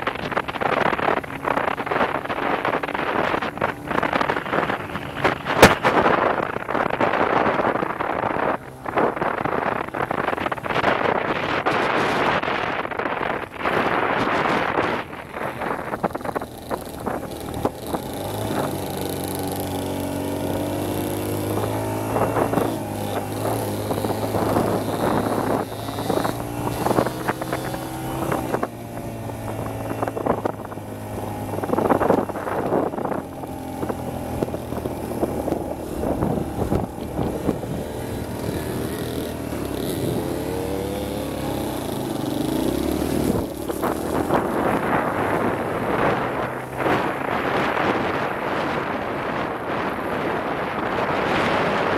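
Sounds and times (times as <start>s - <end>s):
dirt bike engine: 0.0s - 51.9s.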